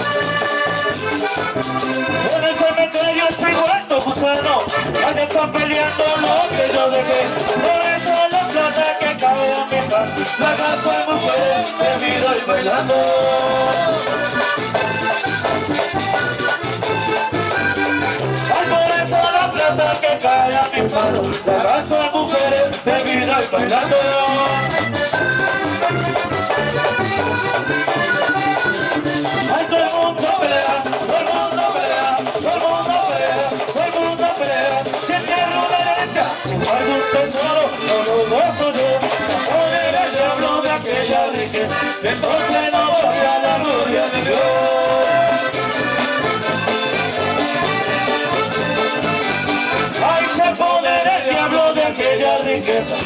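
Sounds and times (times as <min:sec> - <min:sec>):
accordion melody: 0:00.0 - 0:53.0
congas: 0:00.0 - 0:53.0
guitars: 0:00.0 - 0:53.0
shaken percussion rhythm: 0:00.0 - 0:53.0.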